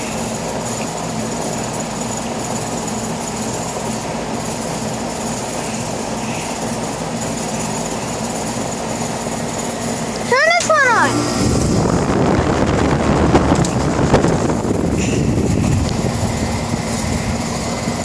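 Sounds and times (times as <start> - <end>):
compressor mechanical hum: 0.0 - 18.0
fan rushing: 0.0 - 18.0.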